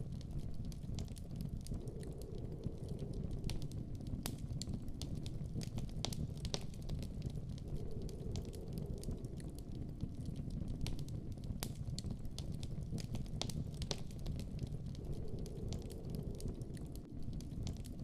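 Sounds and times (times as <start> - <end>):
campfire crackling and popping: 0.0 - 18.0
low rumble of burning: 0.0 - 18.0.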